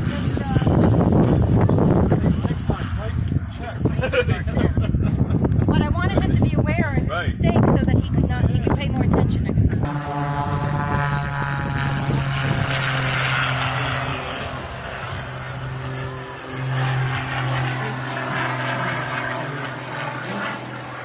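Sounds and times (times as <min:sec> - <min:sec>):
propeller airplane droning: 0:00.0 - 0:21.0.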